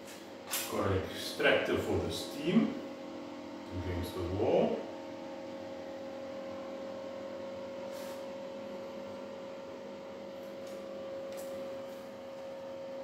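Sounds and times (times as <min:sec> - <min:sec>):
steady mid-pitched hum: 0:00.0 - 0:13.0.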